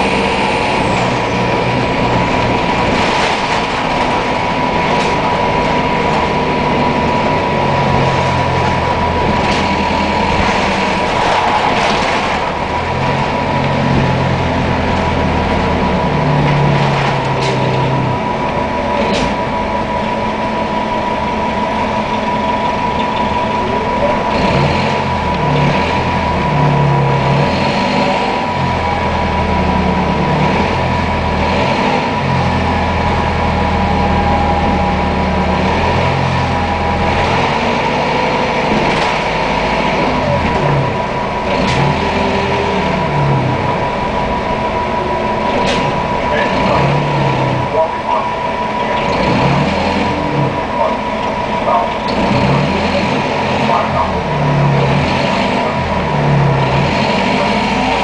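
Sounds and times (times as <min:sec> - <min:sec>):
bus diesel engine running: 0:00.0 - 0:58.0
steady high whine: 0:00.0 - 0:58.0.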